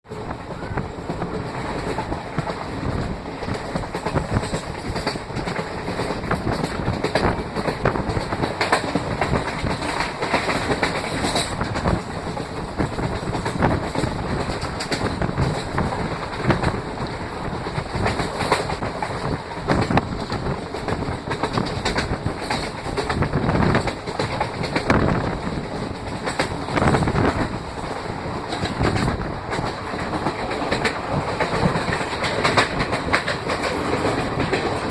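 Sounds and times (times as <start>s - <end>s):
train rumble: 0.0s - 34.9s
wheels clacking over rail joints: 0.1s - 34.9s.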